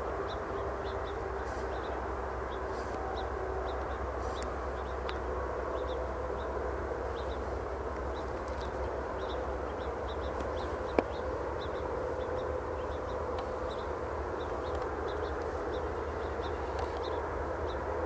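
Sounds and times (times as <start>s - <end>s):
distant drawn-out tones: 0.0s - 18.0s.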